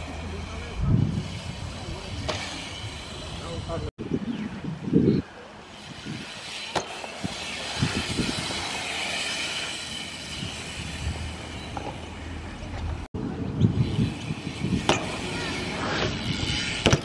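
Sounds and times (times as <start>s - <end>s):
bike tyres rolling on concrete: 0.0s - 17.0s
wind noise on microphone: 0.3s - 17.0s.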